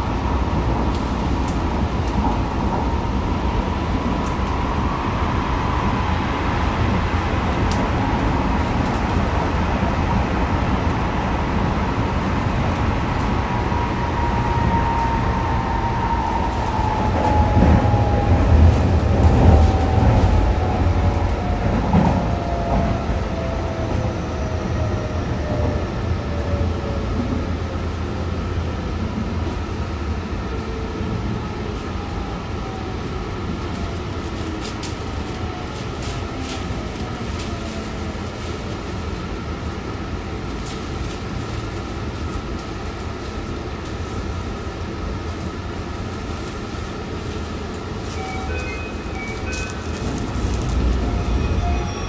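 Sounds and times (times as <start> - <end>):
wheel and rail rumble: 0.0 - 52.0.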